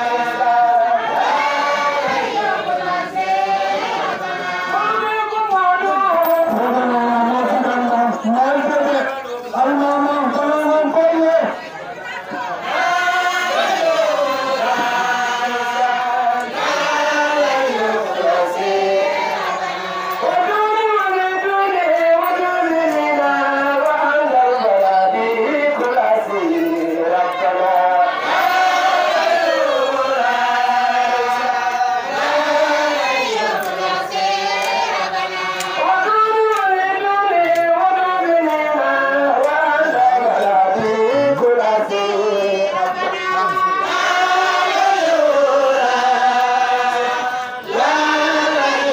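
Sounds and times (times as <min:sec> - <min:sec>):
group chanting religious song: 0:00.0 - 0:48.9.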